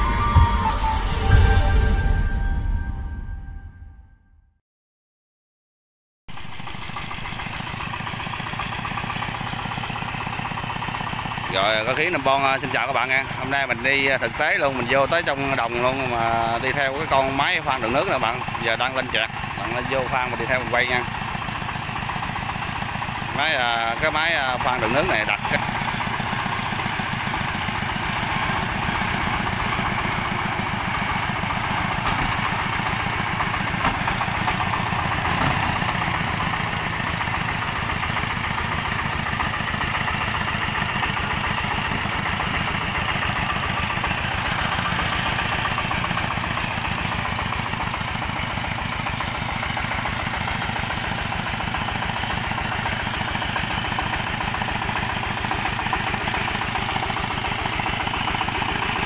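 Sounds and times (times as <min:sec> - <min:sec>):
diesel engine running steadily: 0:06.3 - 0:59.0.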